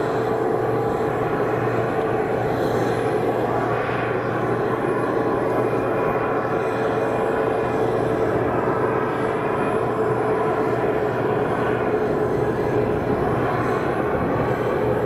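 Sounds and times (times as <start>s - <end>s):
jet airliner landing: 0.0s - 15.0s.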